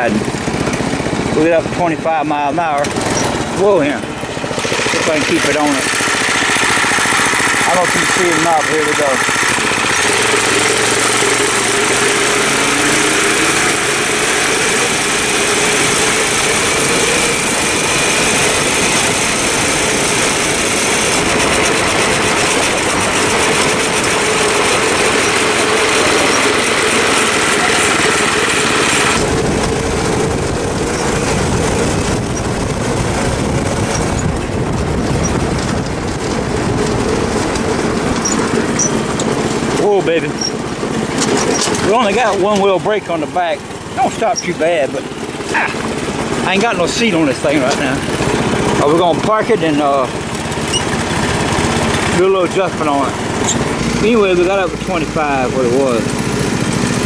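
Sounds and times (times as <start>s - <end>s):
small engine running hard: 0.0s - 57.0s.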